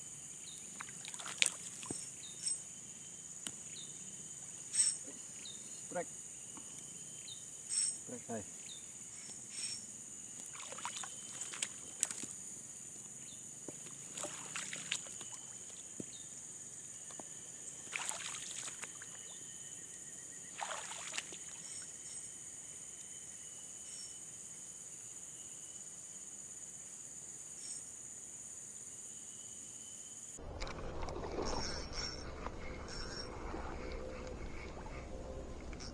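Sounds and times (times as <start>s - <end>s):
insect chorus buzzing: 0.0s - 35.9s.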